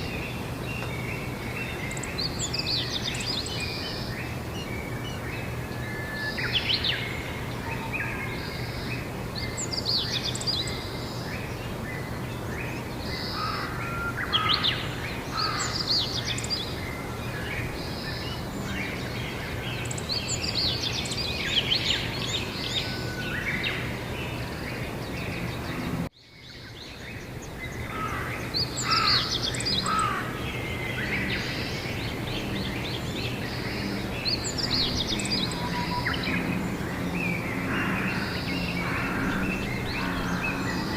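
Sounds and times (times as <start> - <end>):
songbirds singing and chirping: 0.0 - 40.9.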